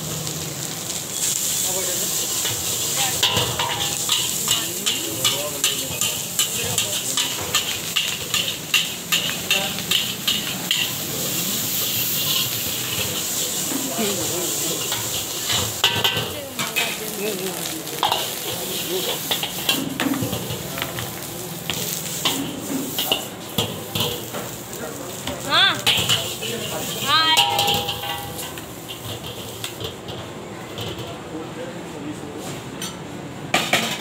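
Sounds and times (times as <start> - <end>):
food sizzling: 0.0 - 31.3
metal ladle scraping wok: 1.1 - 24.6, 25.2 - 31.2.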